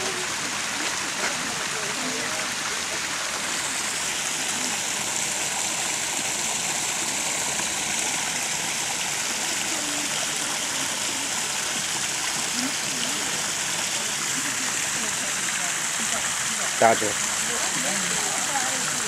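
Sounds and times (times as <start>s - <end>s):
creek rushing over rocks: 0.0s - 19.0s.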